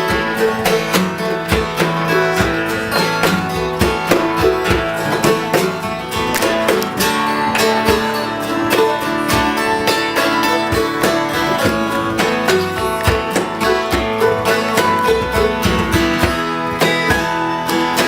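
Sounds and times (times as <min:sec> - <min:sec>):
plucked string notes: 0:00.0 - 0:18.0
strummed acoustic guitar: 0:00.0 - 0:18.0.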